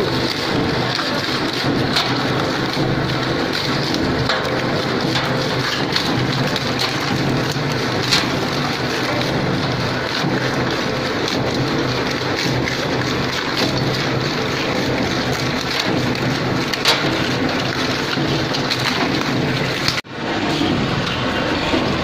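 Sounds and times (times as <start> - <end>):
shredder crunching scrap: 0.0 - 22.0.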